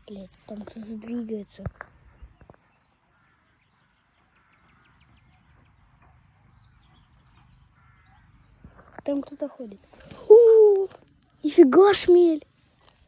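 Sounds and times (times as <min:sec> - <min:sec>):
distant frogs calling: 0:00.0 - 0:11.9.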